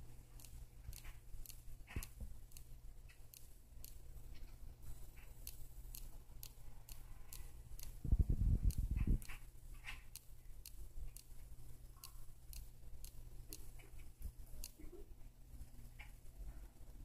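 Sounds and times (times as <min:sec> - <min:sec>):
insect mandibles clicking: 0:00.4 - 0:04.5, 0:05.1 - 0:14.8.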